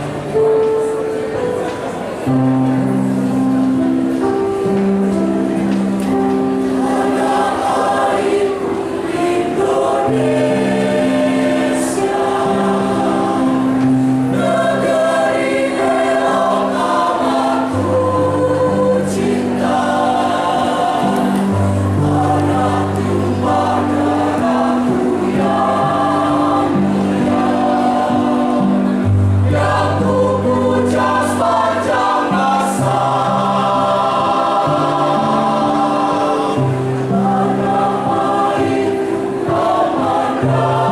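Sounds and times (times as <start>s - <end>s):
choir singing: 0.0s - 40.9s.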